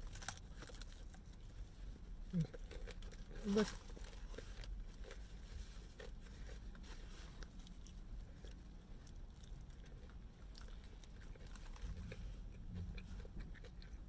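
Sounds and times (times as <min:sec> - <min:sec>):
low steady hum: 0:00.0 - 0:14.0
person chewing fried chicken: 0:00.0 - 0:14.0.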